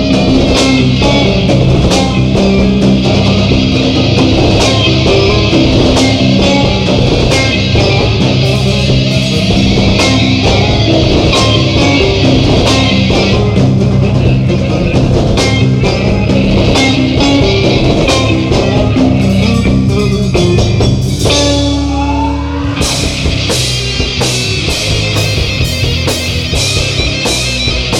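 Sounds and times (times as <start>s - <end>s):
bass guitar: 0.0s - 27.9s
distorted electric guitar: 0.0s - 27.9s
drum kit: 0.0s - 27.9s.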